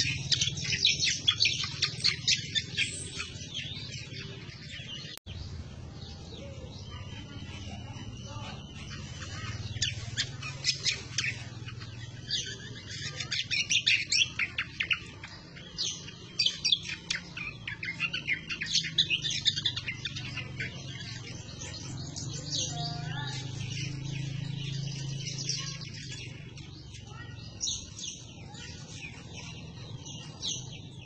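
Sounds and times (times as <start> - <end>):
bird chirping: 0.0 - 31.0.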